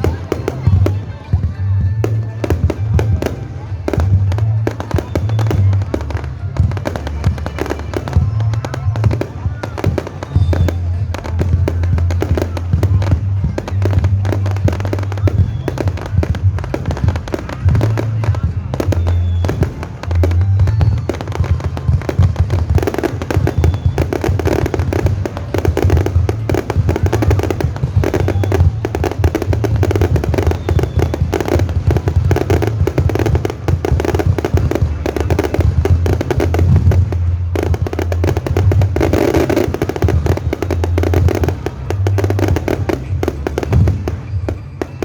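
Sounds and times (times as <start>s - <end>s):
fireworks bangs and crackles: 0.0s - 45.0s
music playing: 0.0s - 45.0s.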